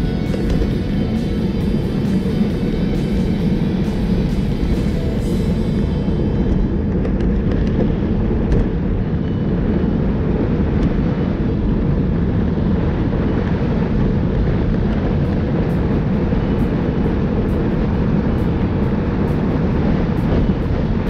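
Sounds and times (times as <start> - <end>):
tyre and road noise: 0.0 - 21.0
wind rushing over microphone: 0.0 - 21.0.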